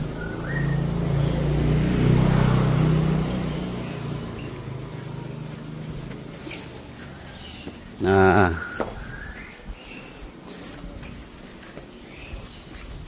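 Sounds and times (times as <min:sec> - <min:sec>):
motorcycle passing: 0:00.0 - 0:13.0.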